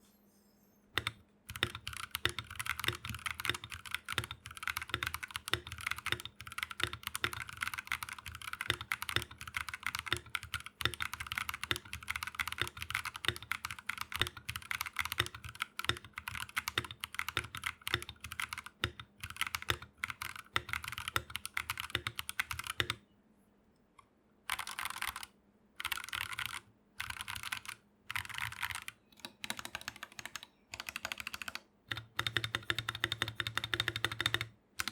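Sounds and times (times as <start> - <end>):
typing on mechanical keyboard: 1.0 - 23.0, 24.5 - 34.9.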